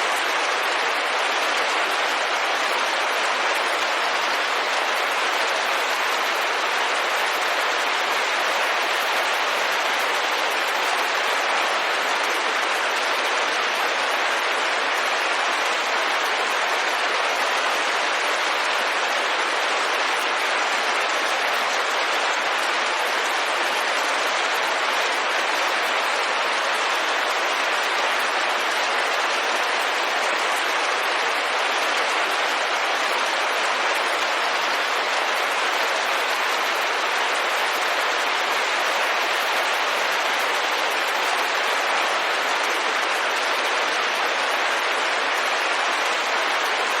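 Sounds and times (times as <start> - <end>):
rain pattering on window: 0.0 - 47.0.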